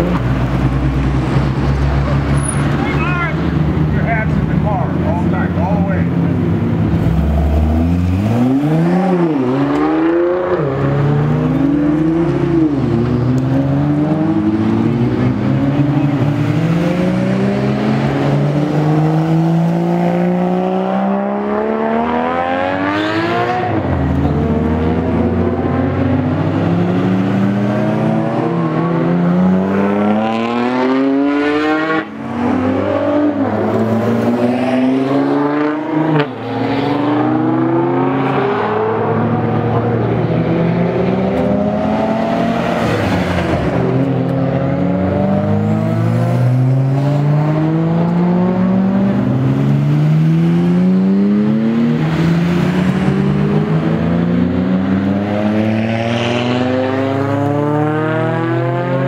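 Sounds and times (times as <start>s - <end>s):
car engines accelerating hard: 0.0s - 59.0s.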